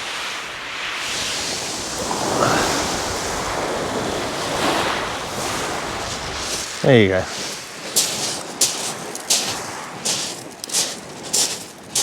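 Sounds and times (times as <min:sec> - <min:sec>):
surf washing onto shingle: 0:00.0 - 0:12.0
wind buffeting microphone: 0:01.2 - 0:12.0.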